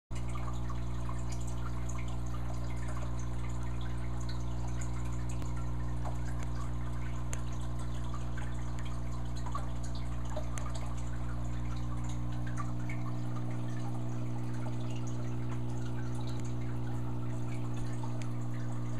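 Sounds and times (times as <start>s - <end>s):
small water drips and splashes: 0.1s - 18.9s
water trickling and bubbling: 0.1s - 18.9s
low electrical hum: 0.2s - 18.9s.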